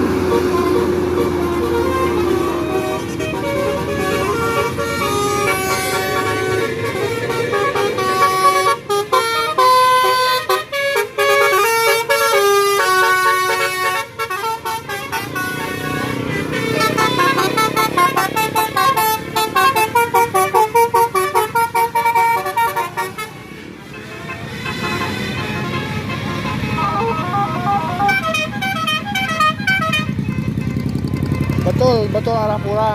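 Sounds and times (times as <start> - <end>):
electric multi-tone bus horn melody: 0.0 - 32.1.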